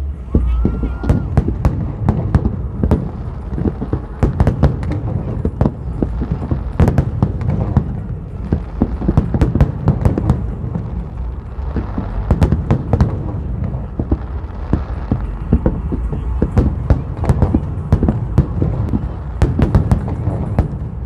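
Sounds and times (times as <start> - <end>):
fireworks bangs and crackles: 0.0 - 21.0
deep rumble of shells bursting: 0.3 - 21.0.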